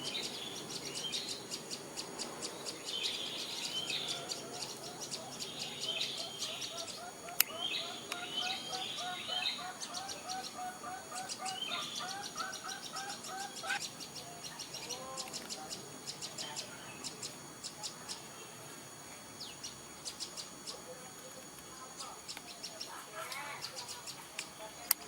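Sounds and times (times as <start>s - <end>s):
high ticking bird chatter: 0.0s - 18.5s, 19.4s - 25.0s.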